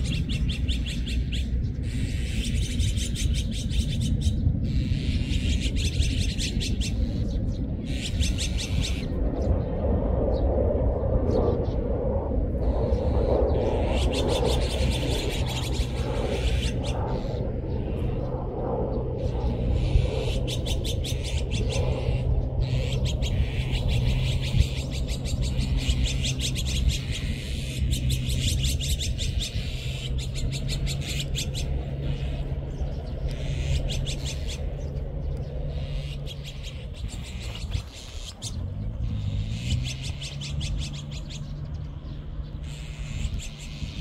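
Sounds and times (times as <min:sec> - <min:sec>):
magpies chattering calls: 0:00.0 - 0:09.2, 0:12.6 - 0:44.0
low hum: 0:00.0 - 0:44.0.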